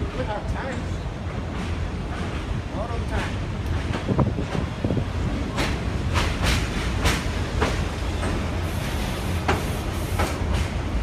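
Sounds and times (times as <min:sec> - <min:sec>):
subway car rumbling: 0:00.0 - 0:11.0.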